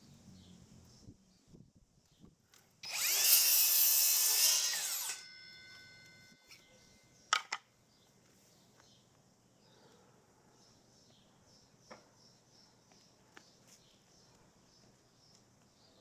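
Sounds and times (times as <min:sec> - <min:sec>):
faint outdoor chirping: 0:00.0 - 0:04.1, 0:04.9 - 0:16.0.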